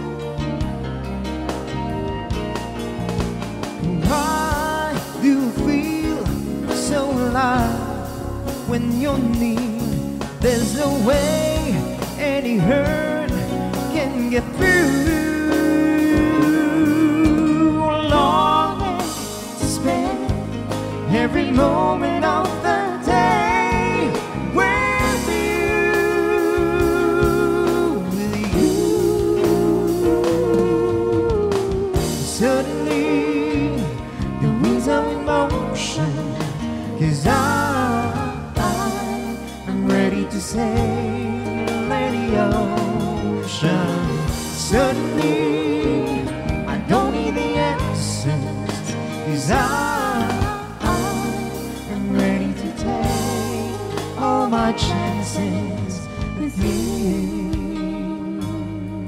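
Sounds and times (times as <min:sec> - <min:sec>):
guitar: 0:00.0 - 0:59.0
man and woman singing duet: 0:03.9 - 0:59.0
violin: 0:09.4 - 0:59.0.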